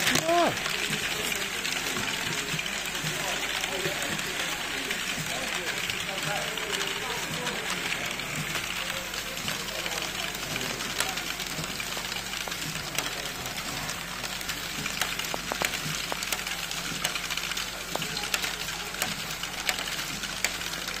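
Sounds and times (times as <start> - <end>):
motors whirring: 0.0 - 21.0
plastic balls clicking and rattling: 0.0 - 21.0.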